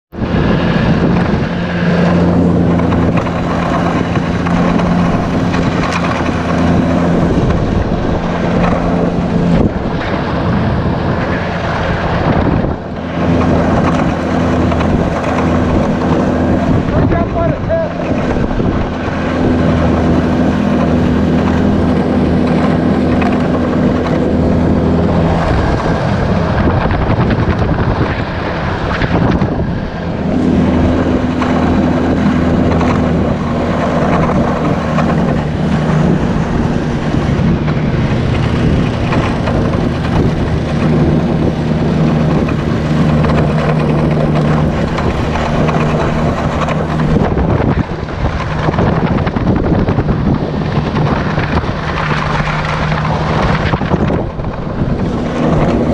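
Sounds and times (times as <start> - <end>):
snowmobile engine running: 0.1 - 55.9
snowmobile track noise: 0.1 - 55.9
wind rushing: 0.1 - 55.9.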